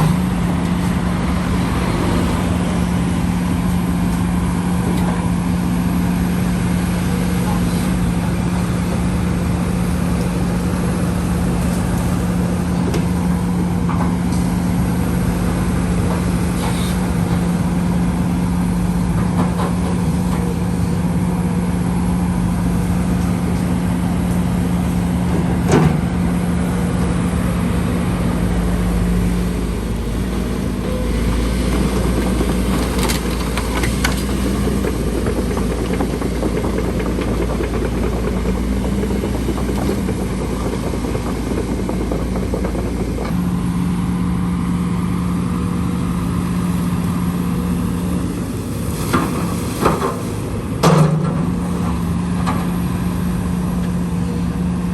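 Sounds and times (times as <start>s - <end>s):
heavy diesel machinery engine: 0.0s - 54.9s.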